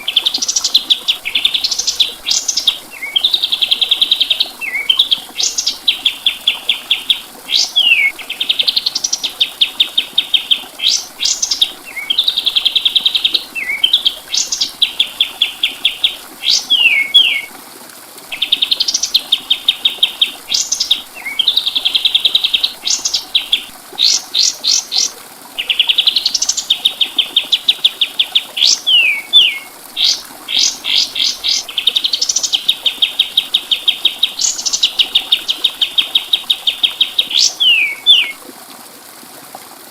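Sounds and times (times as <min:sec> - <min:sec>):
songbird singing: 0:00.0 - 0:17.5, 0:18.3 - 0:38.4.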